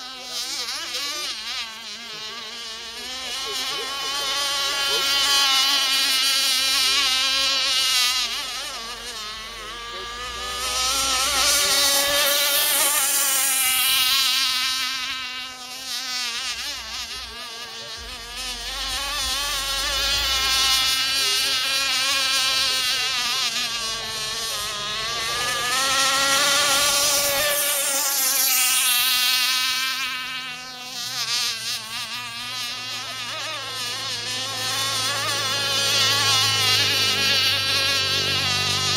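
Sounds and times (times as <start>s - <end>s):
model boat engine whining: 0.0s - 38.9s.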